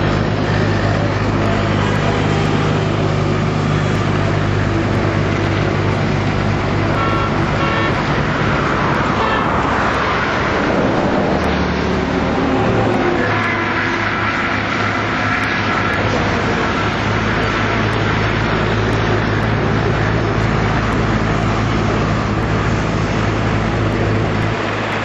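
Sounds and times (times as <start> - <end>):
traffic engine hum: 0.0 - 25.0
vehicle passing: 0.0 - 25.0.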